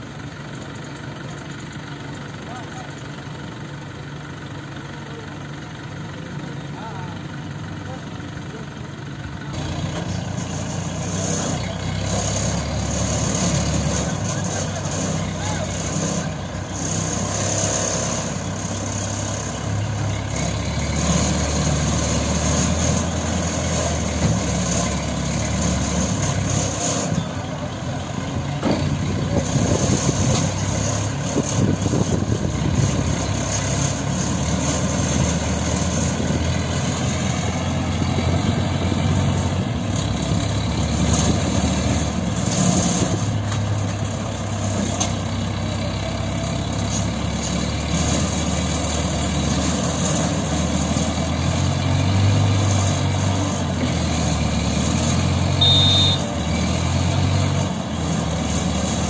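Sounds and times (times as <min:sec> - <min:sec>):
crane diesel engines running: 0:00.0 - 0:59.0.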